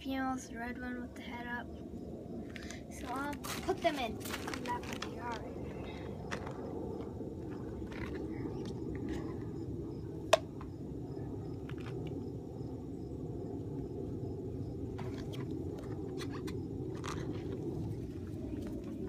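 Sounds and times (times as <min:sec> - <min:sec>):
low rumble: 0:00.2 - 0:19.0
insect chirping: 0:00.9 - 0:18.8.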